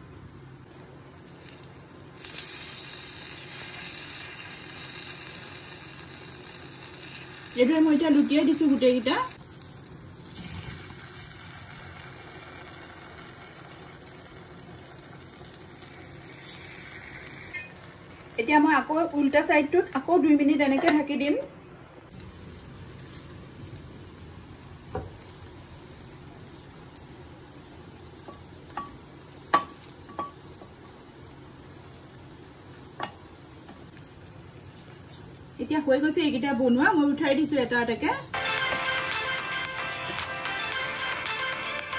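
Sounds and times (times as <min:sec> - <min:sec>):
batter sizzling in oil: 0:00.0 - 0:20.9, 0:22.1 - 0:41.9
frying hiss: 0:00.0 - 0:21.4, 0:22.1 - 0:41.9.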